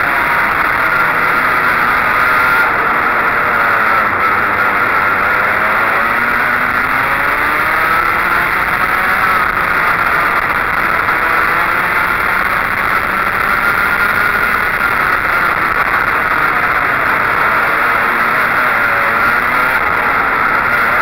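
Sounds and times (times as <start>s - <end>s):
go-kart engine running hard: 0.0s - 21.0s.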